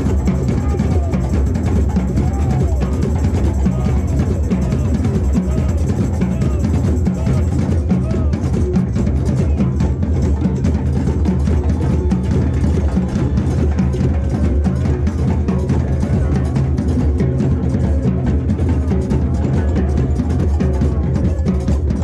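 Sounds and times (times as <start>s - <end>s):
deep drums: 0.0s - 22.0s
drum circle playing: 0.0s - 22.0s.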